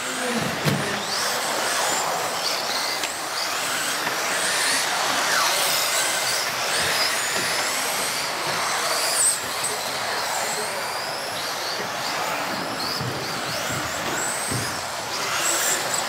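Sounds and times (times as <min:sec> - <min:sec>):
model racing car motors whining: 0:00.0 - 0:16.0.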